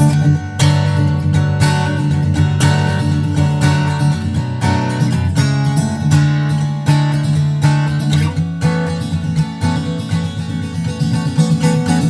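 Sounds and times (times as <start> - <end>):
solo acoustic guitar: 0.0 - 12.0.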